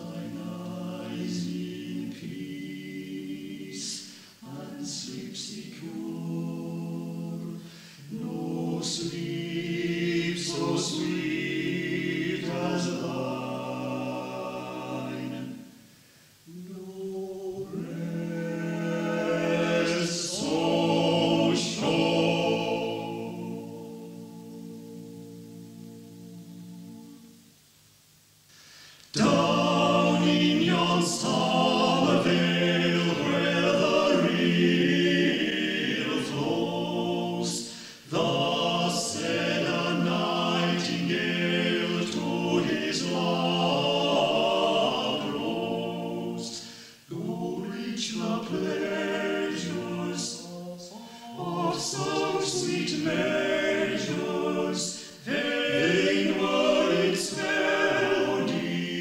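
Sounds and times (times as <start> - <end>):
choir singing a cappella: 0.0 - 27.7, 28.6 - 59.0.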